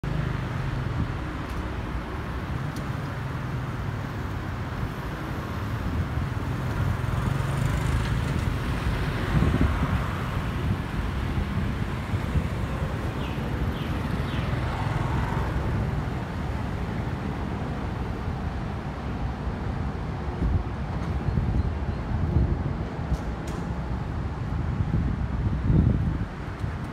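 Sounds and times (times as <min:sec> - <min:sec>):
road traffic: 0:00.0 - 0:26.9.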